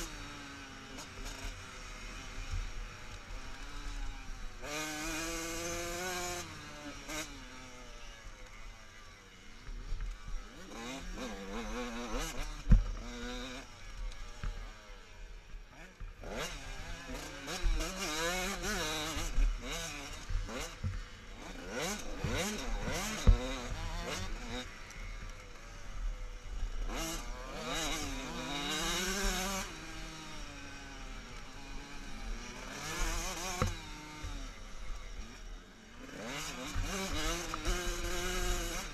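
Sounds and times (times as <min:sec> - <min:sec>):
dirt bikes racing past: 0:00.0 - 0:38.9.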